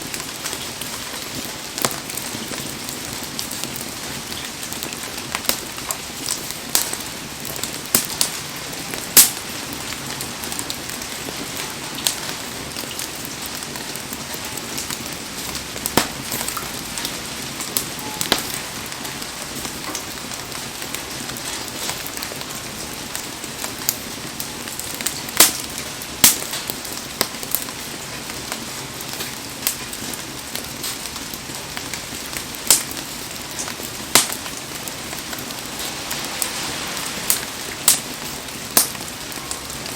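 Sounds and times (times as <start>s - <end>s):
bonfire crackling and popping: 0.0s - 39.9s
heavy rain hissing: 0.0s - 39.9s.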